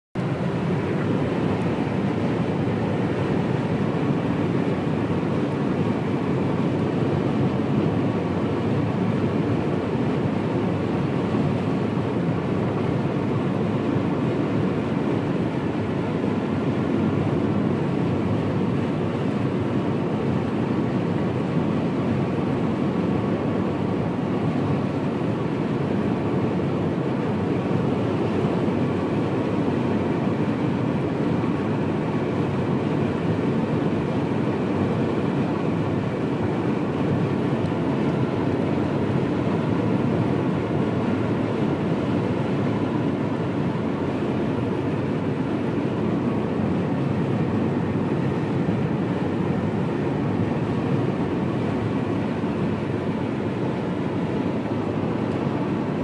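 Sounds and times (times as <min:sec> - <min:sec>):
car road and engine noise: 0:00.2 - 0:56.0.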